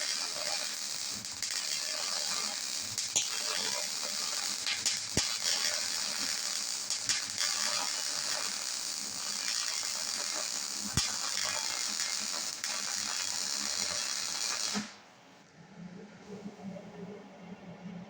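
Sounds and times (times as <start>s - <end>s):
arc welding crackling hiss: 0.0s - 15.0s.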